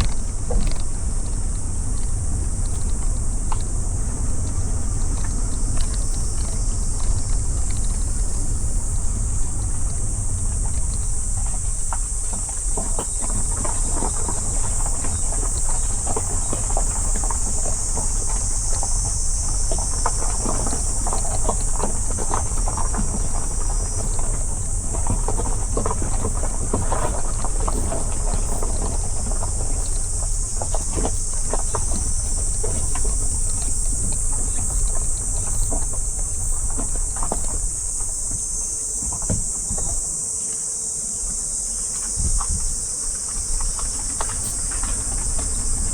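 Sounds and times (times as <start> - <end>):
road and wind noise: 0.0 - 40.0.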